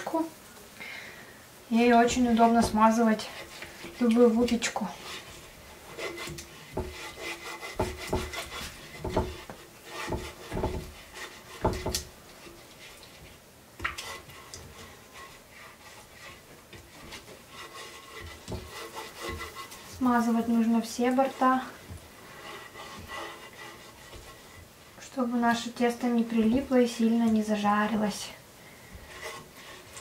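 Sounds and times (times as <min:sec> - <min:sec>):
brush scraping metal tins: 0:01.7 - 0:30.0.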